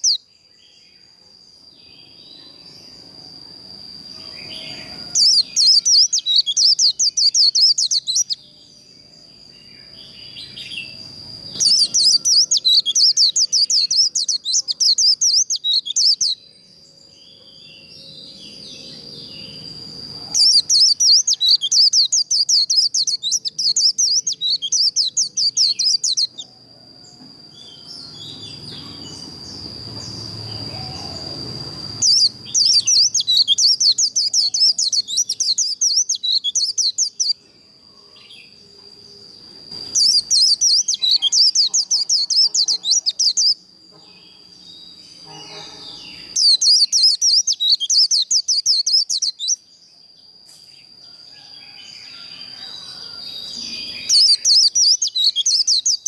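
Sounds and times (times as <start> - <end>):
bird twittering song: 0.0 - 26.6, 27.5 - 56.0.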